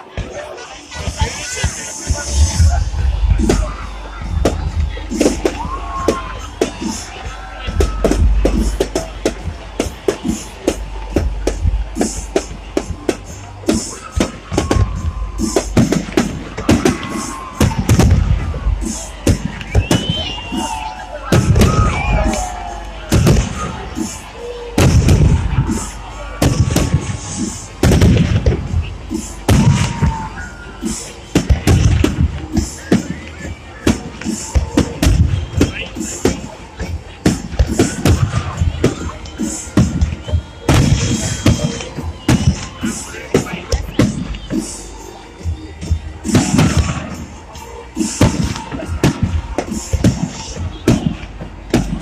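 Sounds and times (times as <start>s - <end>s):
fireworks bursting: 0.0s - 52.0s
fireworks whistles: 0.2s - 52.0s.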